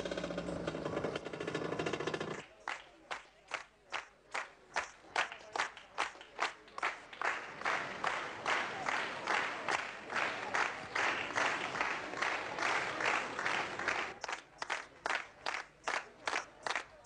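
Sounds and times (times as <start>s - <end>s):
crowd clapping in unison: 2.4s - 17.0s.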